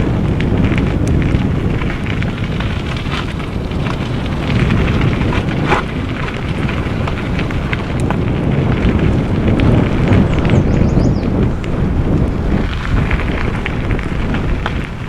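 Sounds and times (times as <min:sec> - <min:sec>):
bike clicking and rattling: 0:00.0 - 0:15.0
wind rumble on microphone: 0:00.0 - 0:15.0.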